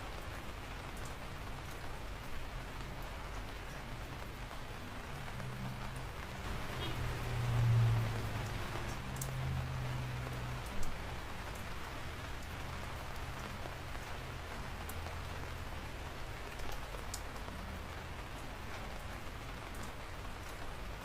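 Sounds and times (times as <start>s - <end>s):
raindrops ticking: 0.0s - 21.0s
steady rain falling: 0.0s - 21.0s.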